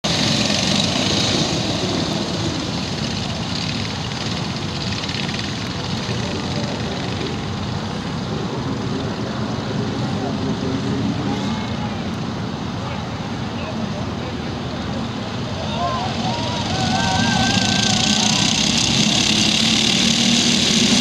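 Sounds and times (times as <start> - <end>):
kart engines buzzing: 0.0 - 12.1, 14.6 - 21.0.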